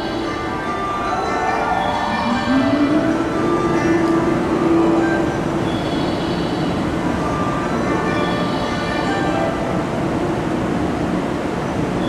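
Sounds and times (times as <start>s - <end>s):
electric train machinery whine: 0.0s - 12.0s.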